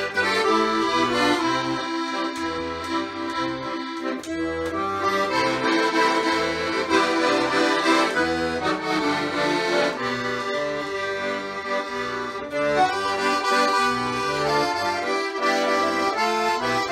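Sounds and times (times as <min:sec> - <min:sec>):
accordion music: 0:00.0 - 0:16.9.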